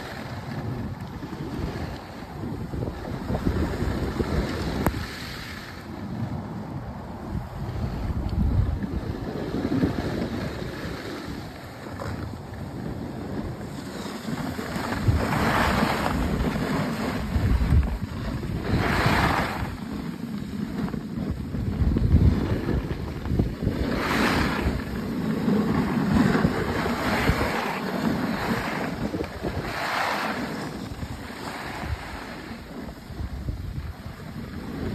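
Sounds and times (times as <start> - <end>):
skis scraping snow: 0.0 - 6.8, 7.6 - 34.9
wind buffeting microphone: 0.0 - 34.9.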